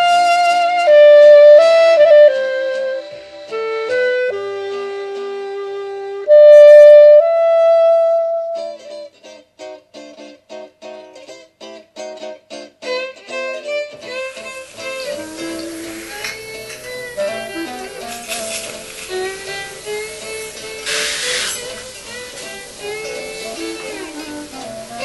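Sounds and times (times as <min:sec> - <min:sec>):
instrumental background music: 0:00.0 - 0:25.0.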